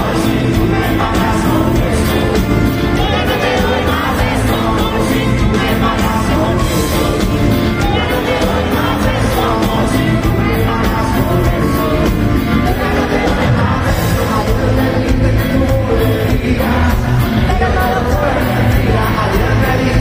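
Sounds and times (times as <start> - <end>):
live rock band: 0.0 - 20.0
man singing lead vocal: 0.0 - 20.0.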